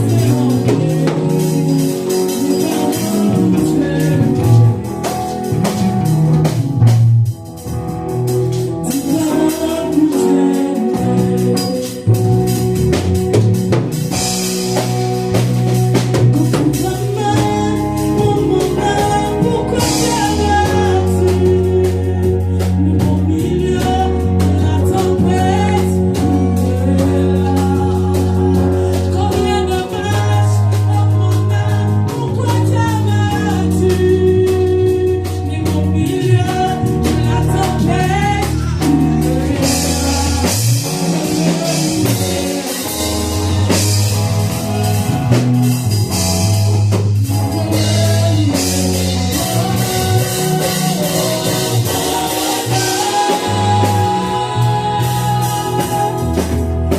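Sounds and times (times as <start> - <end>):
gospel singing: 0.0 - 7.0, 8.0 - 56.9
band playing: 0.0 - 56.9.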